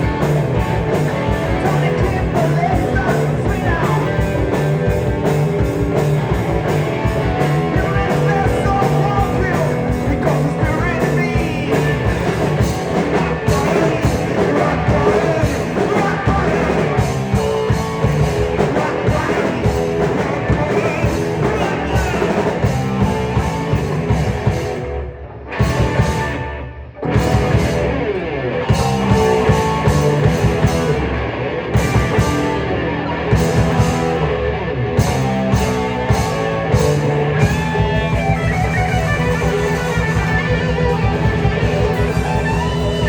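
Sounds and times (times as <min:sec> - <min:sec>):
drum kit beat: 0:00.0 - 0:25.0, 0:25.6 - 0:28.1, 0:28.7 - 0:31.2, 0:31.8 - 0:34.4, 0:35.0 - 0:43.0
electric guitar: 0:00.0 - 0:43.0
live rock band: 0:00.0 - 0:43.0.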